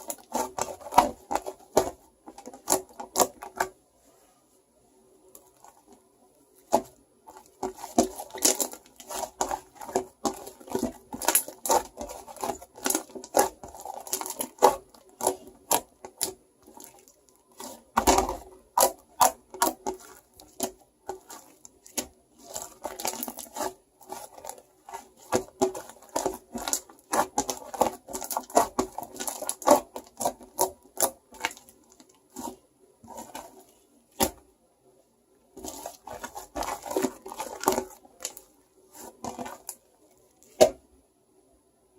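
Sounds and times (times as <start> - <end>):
hands squishing shaving foam: 0.0 - 3.7, 6.7 - 34.4, 35.6 - 39.8
sticky squelches and crackles: 0.0 - 3.8, 5.2 - 34.5, 35.5 - 40.8.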